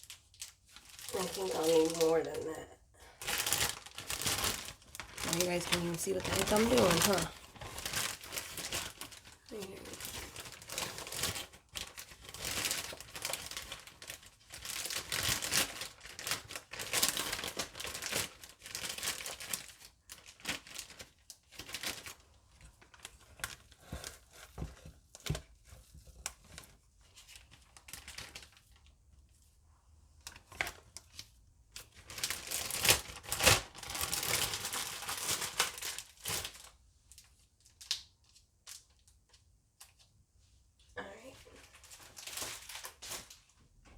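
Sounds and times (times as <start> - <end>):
plastic bag crinkling: 0.0 - 24.1, 26.3 - 29.0, 30.2 - 39.1, 41.4 - 43.6.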